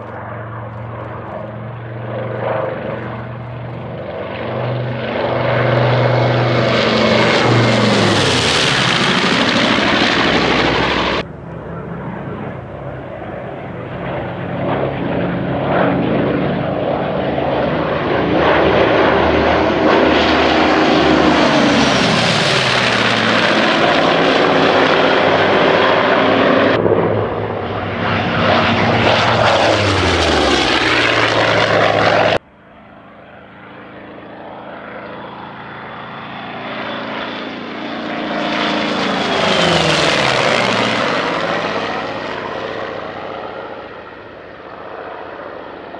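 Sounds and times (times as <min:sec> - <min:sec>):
propeller planes flying by: 0:00.0 - 0:45.9.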